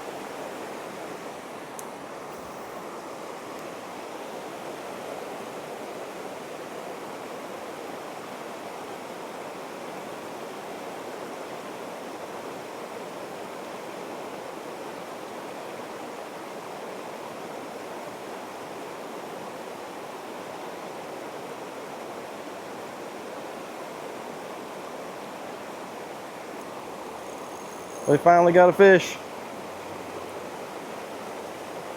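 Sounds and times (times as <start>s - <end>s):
stream water flowing: 0.0s - 31.9s.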